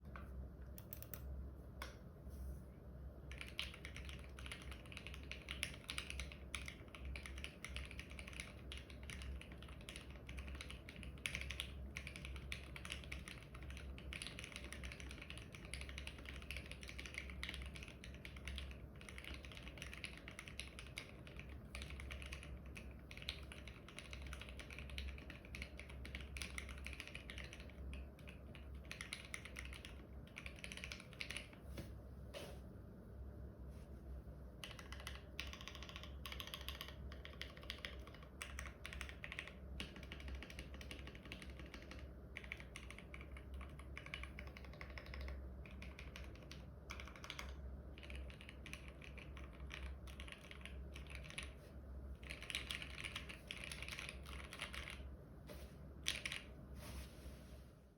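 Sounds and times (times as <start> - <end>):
mechanical keyboard typing: 0.8 - 1.3, 3.3 - 31.6, 34.6 - 51.6, 52.2 - 55.1, 56.0 - 56.5.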